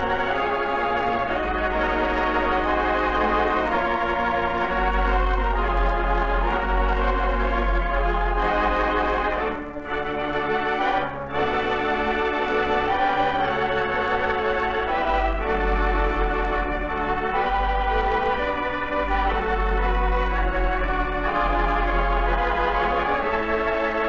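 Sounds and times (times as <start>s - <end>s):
organ-like held chords: 0.0s - 24.0s.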